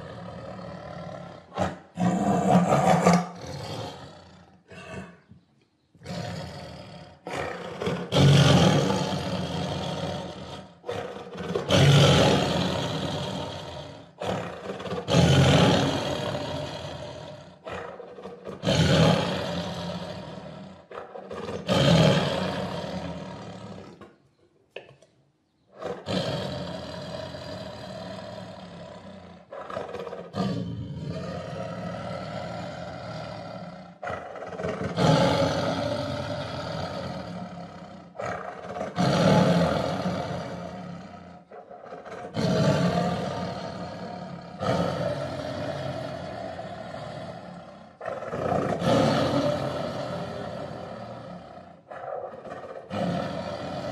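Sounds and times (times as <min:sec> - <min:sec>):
tiger roaring: 0:00.0 - 0:05.3, 0:06.0 - 0:24.1, 0:25.7 - 0:53.9.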